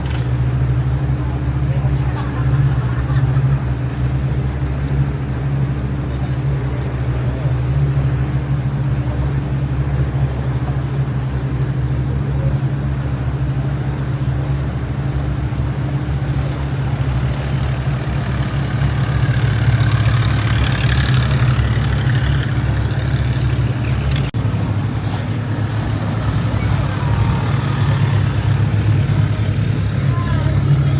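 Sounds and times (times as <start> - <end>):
boat engine droning: 0.0 - 30.9.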